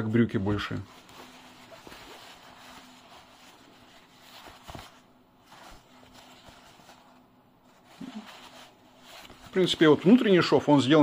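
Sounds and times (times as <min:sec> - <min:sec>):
denim fabric rustling: 0:00.8 - 0:10.4.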